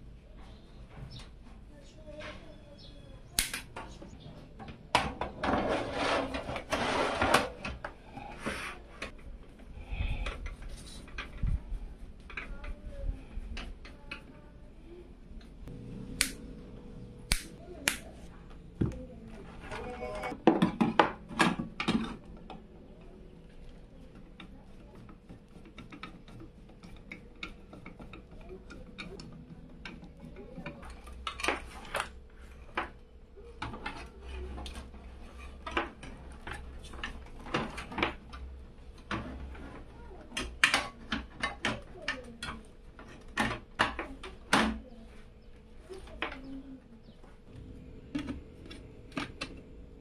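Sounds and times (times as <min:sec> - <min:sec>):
faint steady hum: 0:07.2 - 0:50.0.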